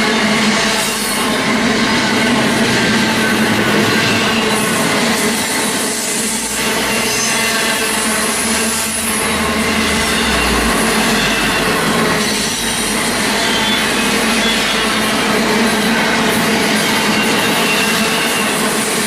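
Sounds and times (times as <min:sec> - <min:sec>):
freight train rumbling past: 0:00.0 - 0:19.0
wheels squealing: 0:00.3 - 0:19.0.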